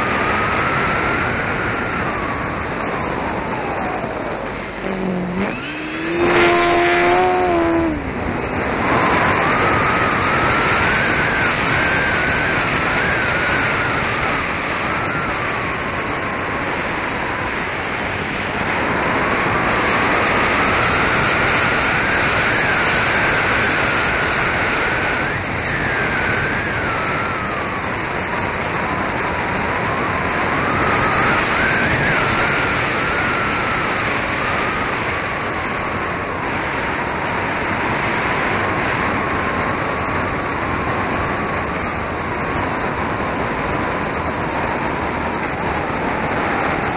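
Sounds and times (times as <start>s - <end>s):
electric motor and propeller whine: 0.0s - 46.9s
wind rush on microphone: 0.0s - 46.9s.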